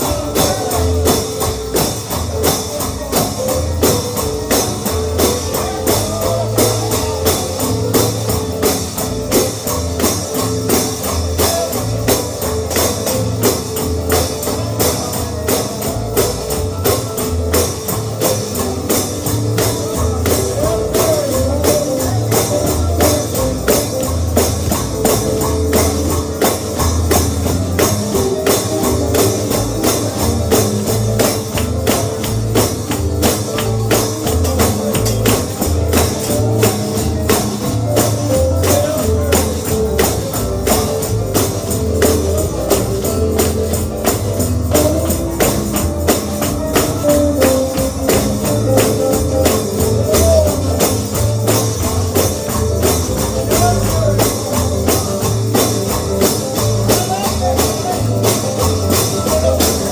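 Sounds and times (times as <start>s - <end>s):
guitar: 0.0s - 59.9s
pulsing bass line: 0.0s - 59.9s
tambourine beat: 0.0s - 59.9s.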